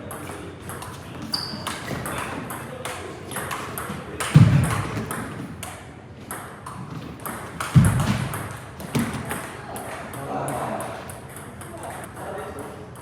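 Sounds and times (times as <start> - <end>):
table tennis balls clicking: 0.1 - 13.0.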